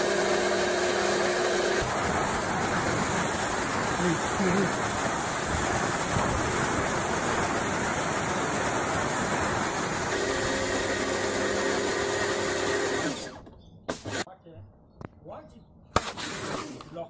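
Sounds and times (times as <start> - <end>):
pressure washer jet spraying water: 0.0 - 14.3
pressure washer motor hum: 0.0 - 14.3.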